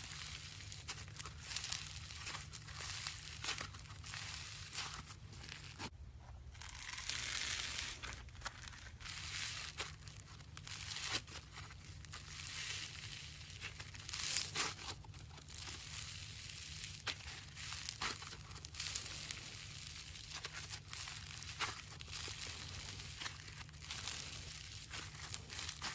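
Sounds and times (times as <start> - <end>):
slime popping and squishing: 0.0 - 5.9, 6.5 - 25.9.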